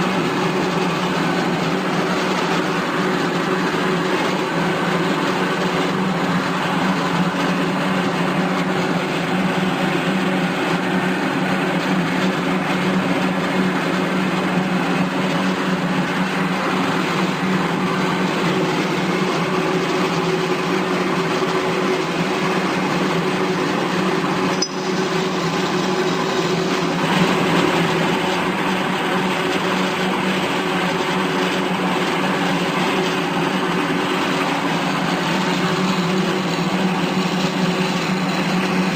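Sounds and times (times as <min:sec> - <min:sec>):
bandsaw running: 0:00.0 - 0:38.9.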